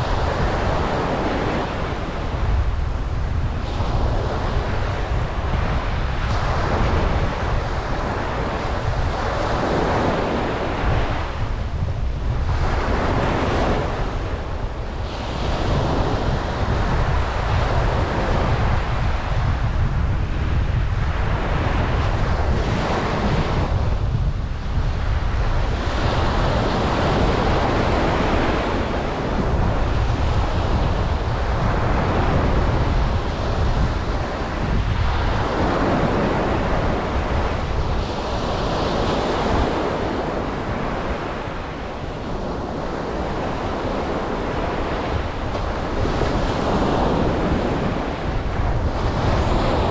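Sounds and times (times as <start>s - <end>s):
ocean waves breaking on beach: 0.0s - 49.9s.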